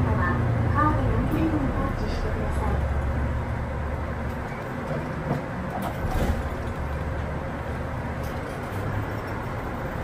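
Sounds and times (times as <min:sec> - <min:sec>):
bus engine rumble: 0:00.0 - 0:10.0
road noise: 0:00.0 - 0:10.0.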